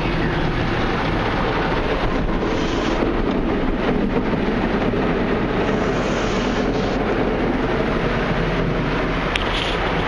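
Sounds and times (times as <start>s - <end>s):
water spray on car: 0.0s - 10.0s
car wash brushes scrubbing: 1.4s - 10.0s.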